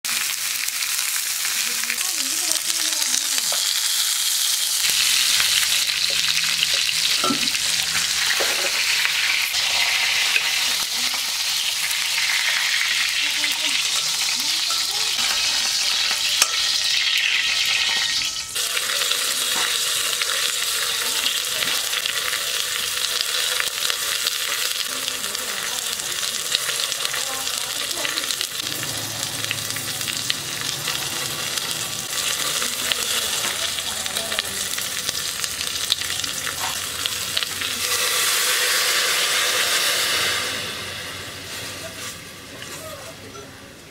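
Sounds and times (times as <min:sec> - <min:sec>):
ribs sizzling in hot oil: 0:00.0 - 0:43.0
water poured into hot pot: 0:00.1 - 0:42.5.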